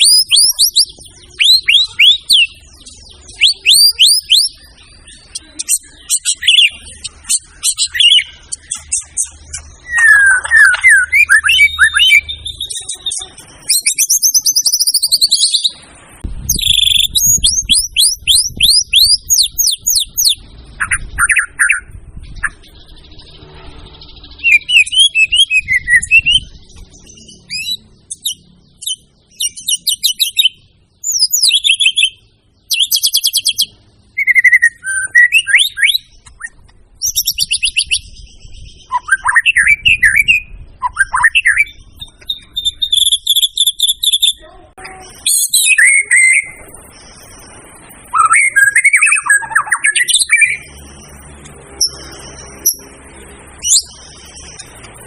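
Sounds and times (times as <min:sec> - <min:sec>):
songbird singing varied whistles: 0:00.0 - 0:15.8, 0:16.4 - 0:44.4, 0:45.2 - 0:47.4, 0:48.0 - 0:51.2.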